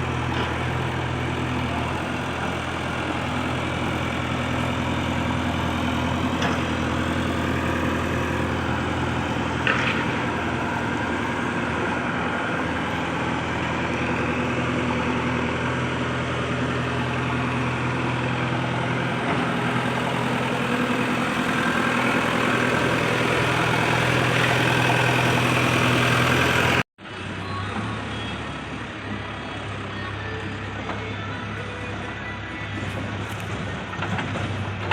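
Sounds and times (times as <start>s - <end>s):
heavy diesel engine running: 0.0s - 34.9s
quieter engine: 0.0s - 34.9s.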